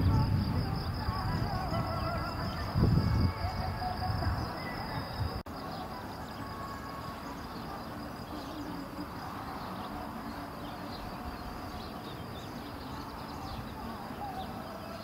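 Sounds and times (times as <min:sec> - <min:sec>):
faint high bird chirps: 0:00.0 - 0:15.0.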